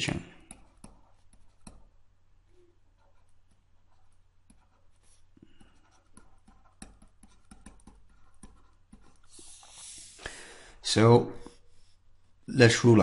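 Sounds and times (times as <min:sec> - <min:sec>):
stylus scratching on tablet: 0:00.4 - 0:10.2, 0:11.3 - 0:13.0.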